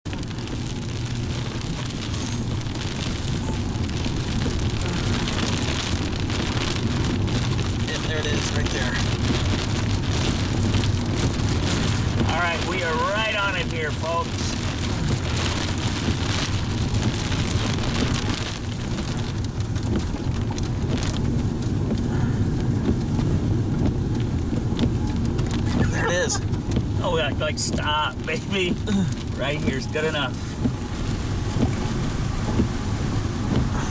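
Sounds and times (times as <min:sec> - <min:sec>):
engine and road rumble: 0:00.0 - 0:33.9
rain pattering on a car: 0:00.0 - 0:33.9
constant hiss: 0:00.2 - 0:33.9.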